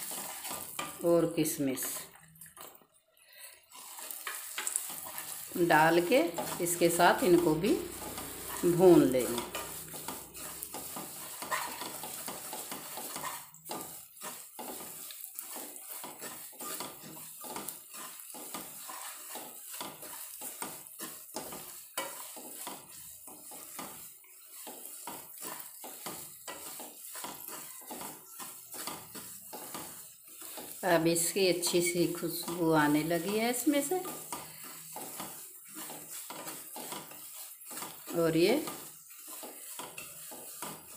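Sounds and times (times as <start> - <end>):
spatula scraping metal pan: 0.0 - 2.2, 3.4 - 40.9
soft sizzle of ghee: 0.0 - 40.9.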